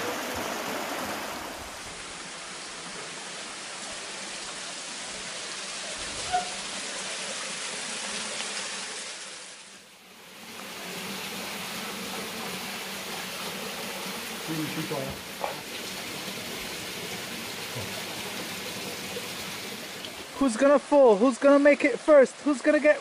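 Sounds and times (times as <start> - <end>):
waterfall splashing into pool: 0.0 - 23.0.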